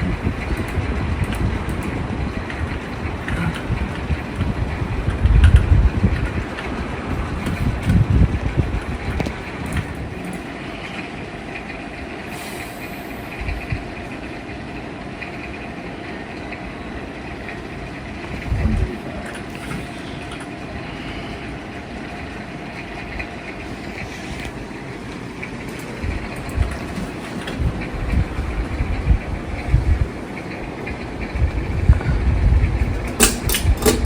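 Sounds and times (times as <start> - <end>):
ceiling fan air rush: 0.0 - 34.0
faint motor hum: 0.0 - 34.0.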